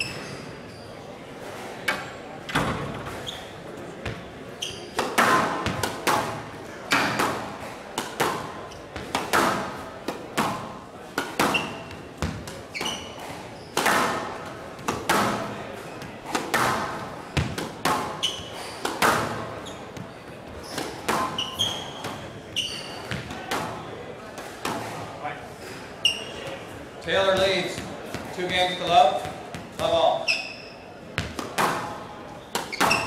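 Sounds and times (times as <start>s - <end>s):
court shoes squeaking: 0.0s - 33.0s
squash ball hits echoing: 4.0s - 25.1s, 26.4s - 30.2s, 31.0s - 33.0s.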